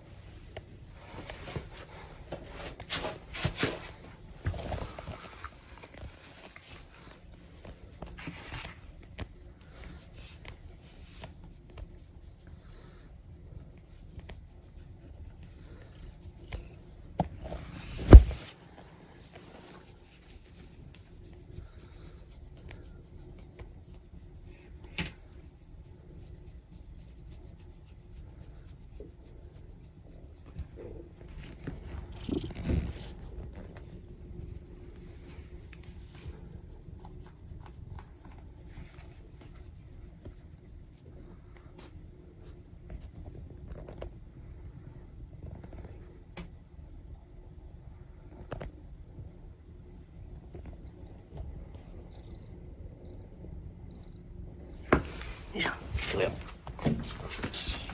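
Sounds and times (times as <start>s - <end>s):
soft rustling and rubbing: 0.0s - 44.2s, 54.6s - 57.9s.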